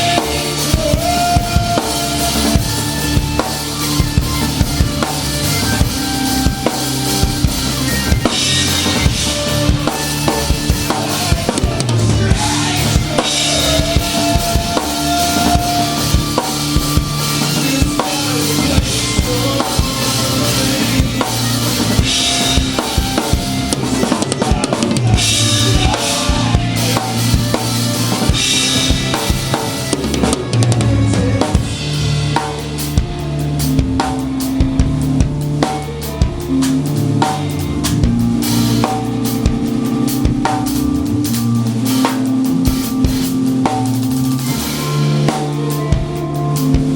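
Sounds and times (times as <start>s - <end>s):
live band playing: 0.0s - 46.9s.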